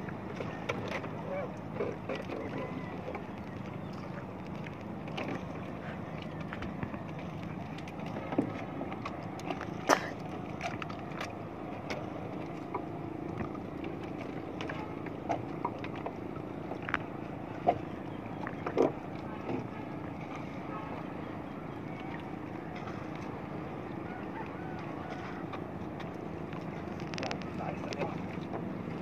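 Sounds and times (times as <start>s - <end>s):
wind and water rumble: 0.0s - 29.0s.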